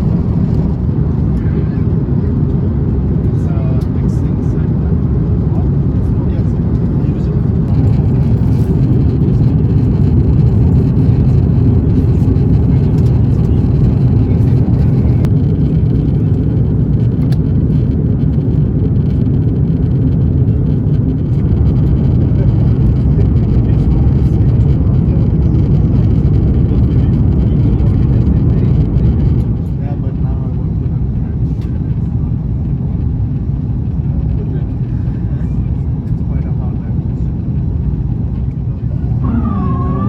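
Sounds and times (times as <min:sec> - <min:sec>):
airliner cabin noise: 0:00.0 - 0:40.0.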